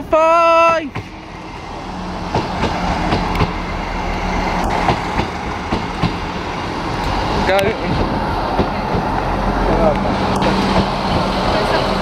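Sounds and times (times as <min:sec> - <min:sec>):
train rushing past: 0:00.0 - 0:12.0
low engine drone: 0:01.1 - 0:12.0.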